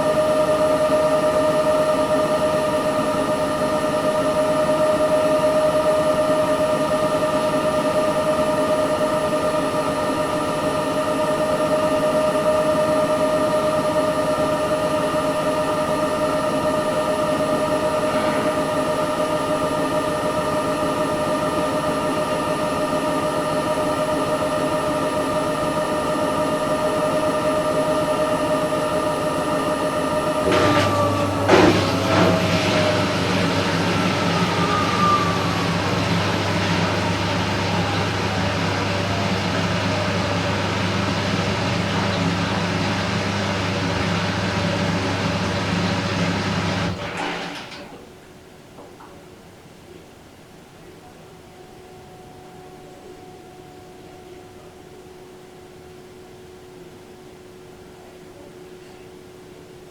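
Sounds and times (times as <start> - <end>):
washing machine whining and humming: 0.0 - 49.2.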